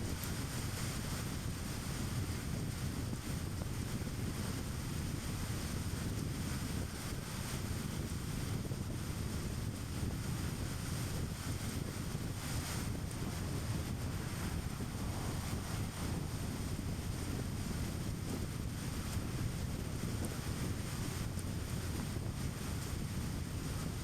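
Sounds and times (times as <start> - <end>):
wind hiss: 0.0 - 24.0.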